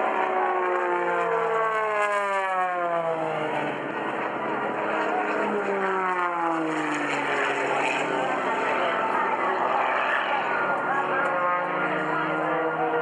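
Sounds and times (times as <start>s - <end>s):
aircraft engine flying past: 0.0s - 13.0s.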